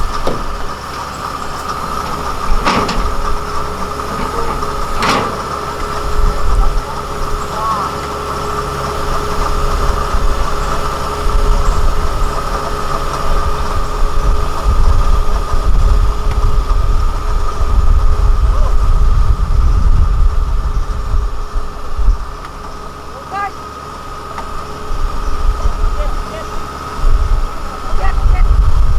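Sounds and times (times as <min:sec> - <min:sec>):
deep rumble: 0:00.0 - 0:23.2, 0:24.1 - 0:28.9
diesel engine whining: 0:00.0 - 0:28.9.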